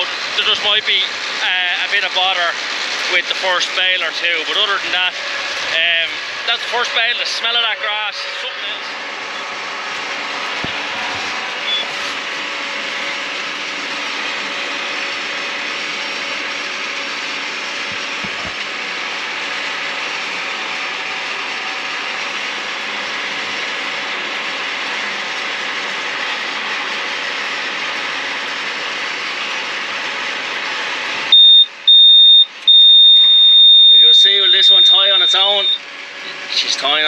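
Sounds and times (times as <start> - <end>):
round baler running: 0.0 - 37.0.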